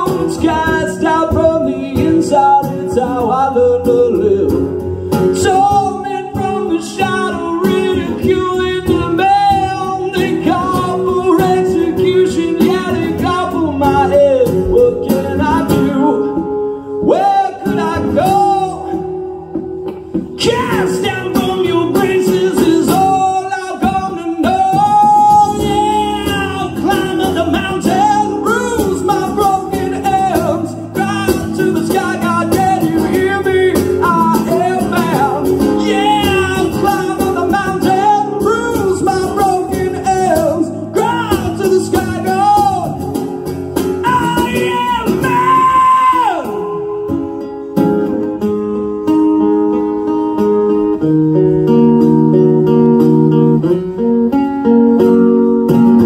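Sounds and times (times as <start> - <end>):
person singing: 0.0 - 47.5
acoustic guitar: 0.0 - 56.0.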